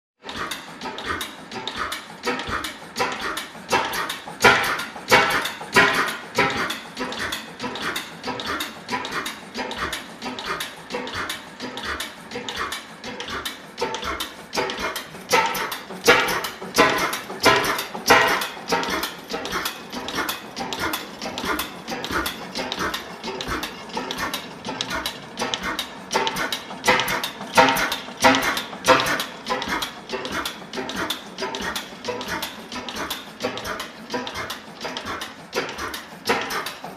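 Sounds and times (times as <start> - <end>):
oil engine running: 0.2 - 36.9.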